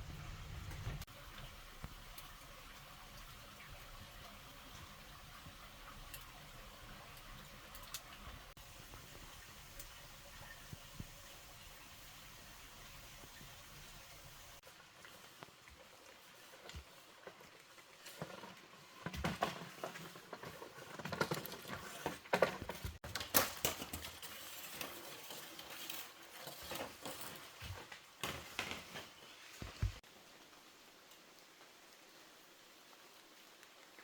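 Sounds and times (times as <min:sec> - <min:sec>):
faint steady hiss: 0:00.0 - 0:20.6, 0:23.2 - 0:34.0.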